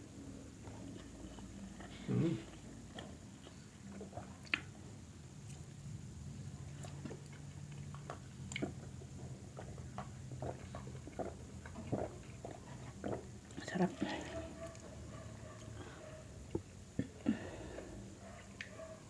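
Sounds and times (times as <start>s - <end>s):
faint low hum: 0.0s - 19.0s
person chewing food: 0.6s - 5.8s, 6.6s - 18.9s.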